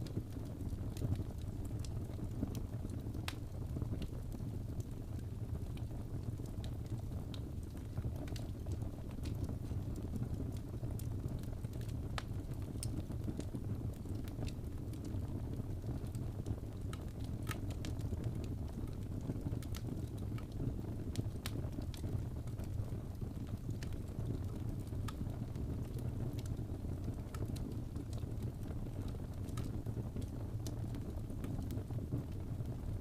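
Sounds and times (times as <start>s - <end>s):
low rumble of flames: 0.0s - 33.0s
wood crackling and popping: 0.0s - 33.0s.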